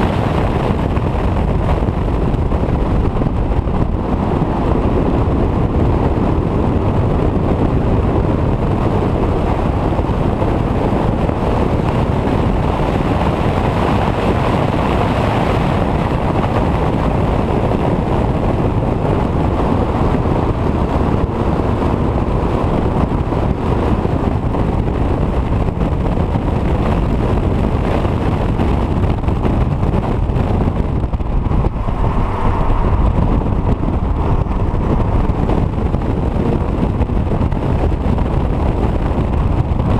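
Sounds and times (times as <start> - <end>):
car engine: 0.0 - 39.9
wind buffeting microphone: 0.0 - 39.9.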